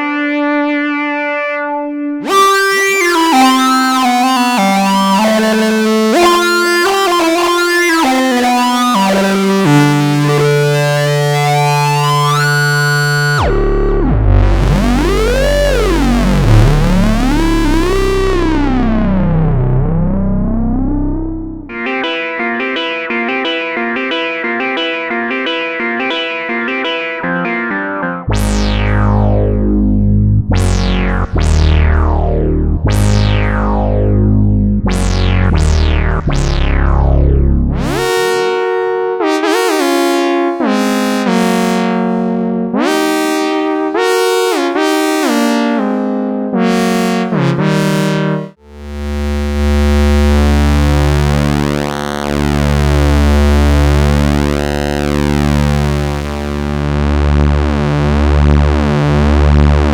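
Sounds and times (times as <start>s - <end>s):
analog synthesizer playing: 0.0s - 59.9s.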